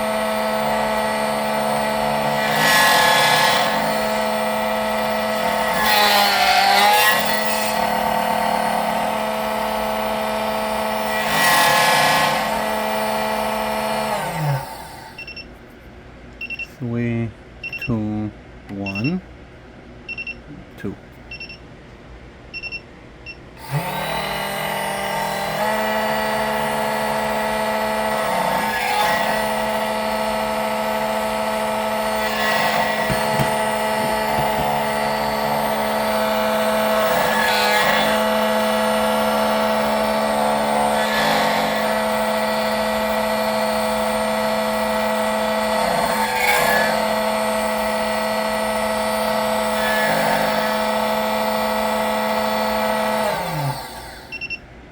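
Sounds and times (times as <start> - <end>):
cutter motor whine: 0.0 - 15.4, 23.5 - 54.6
key-cutting machine beeping: 0.0 - 15.5, 16.4 - 16.7, 17.6 - 18.0, 18.8 - 19.2, 21.3 - 21.6, 22.6 - 54.6.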